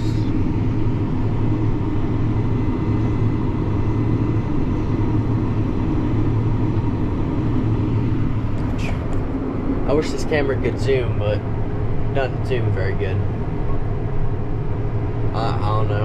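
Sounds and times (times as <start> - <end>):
combine harvester droning: 0.0 - 16.0
faint steady whine: 0.0 - 16.0.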